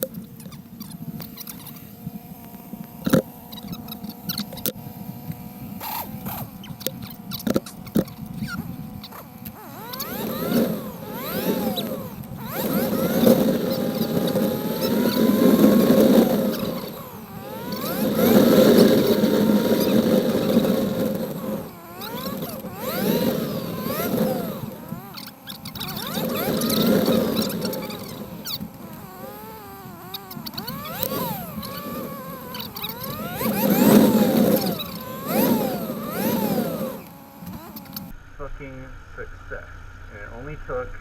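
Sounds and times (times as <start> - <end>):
motorcycle engine revving: 0.0 - 38.2.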